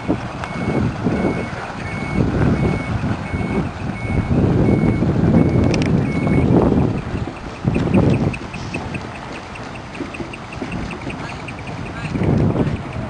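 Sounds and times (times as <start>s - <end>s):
diesel engine running: 0.0s - 13.0s
truck reversing beeper: 0.0s - 13.0s.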